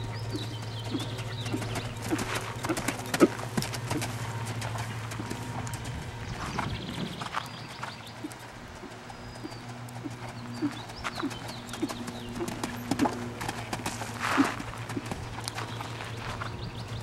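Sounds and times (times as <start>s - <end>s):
hooves on gravel: 0.0s - 17.0s.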